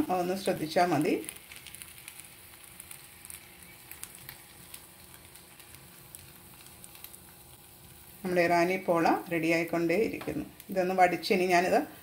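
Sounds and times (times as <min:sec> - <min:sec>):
small crackles: 0:00.0 - 0:10.9
batter sizzling in pan: 0:00.0 - 0:12.0.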